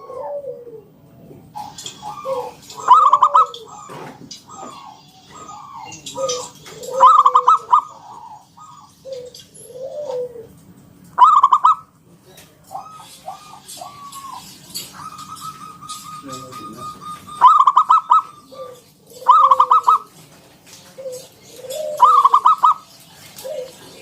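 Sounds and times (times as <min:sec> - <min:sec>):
dove cooing: 0:00.0 - 0:24.0
dove pulsed trilling: 0:00.0 - 0:24.0.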